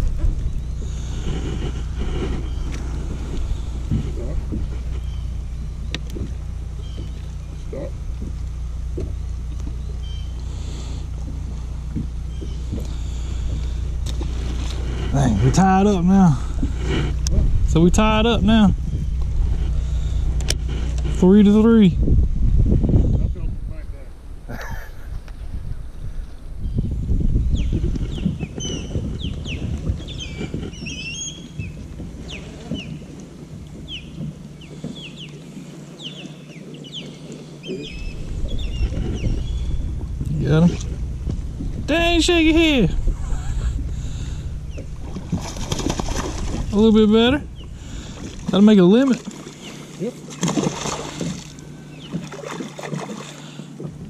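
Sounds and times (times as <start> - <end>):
songbirds chirping: 0.0 - 22.0, 25.2 - 53.9
low rumble: 0.0 - 35.3, 37.6 - 52.8
boat motor humming: 0.0 - 54.0.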